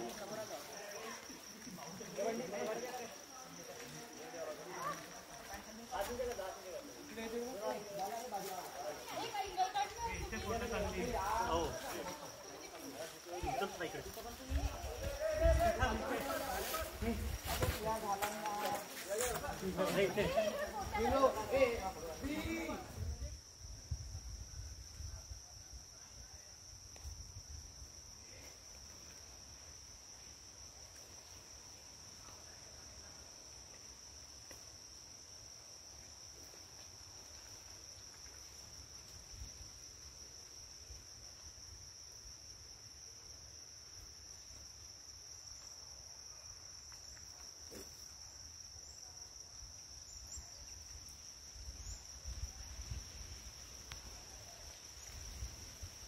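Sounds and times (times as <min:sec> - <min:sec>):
forest insects droning: 0:00.0 - 0:56.0.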